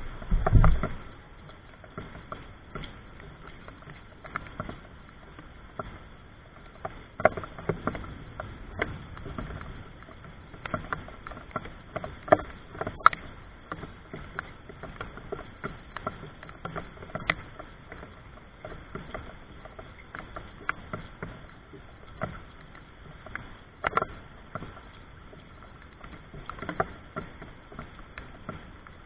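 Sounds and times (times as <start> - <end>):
low steady wash of noise: 0.0 - 29.0
water dripping and splashing: 0.0 - 29.0.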